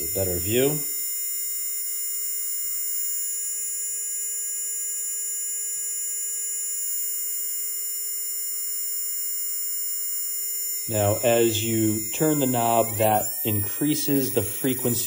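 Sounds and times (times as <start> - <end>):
spark tester buzzing: 0.0 - 15.0.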